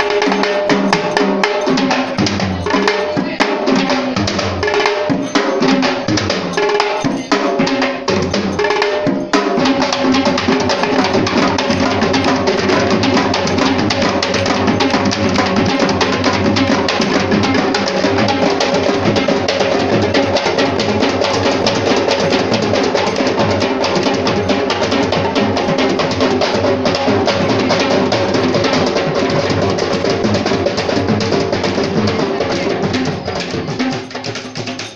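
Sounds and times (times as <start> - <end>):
ensemble of drums playing: 0.0 - 34.9.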